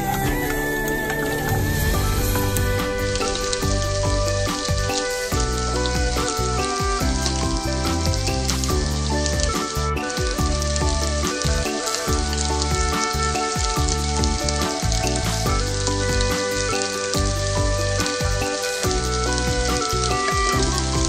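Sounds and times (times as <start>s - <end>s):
background music: 0.0s - 21.0s
onion sizzling in hot oil: 0.0s - 21.0s.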